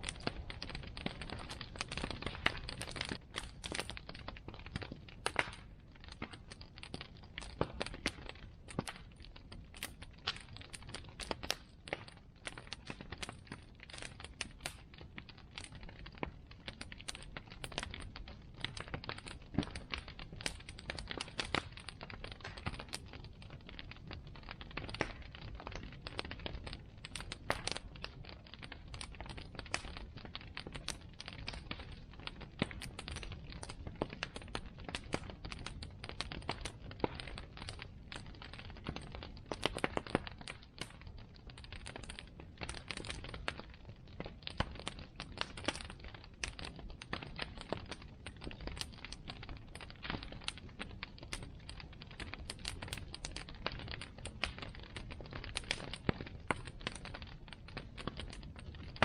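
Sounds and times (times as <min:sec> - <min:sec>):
bonfire crackling and popping: 0:00.0 - 0:59.0
low rumble of fire: 0:00.0 - 0:59.0.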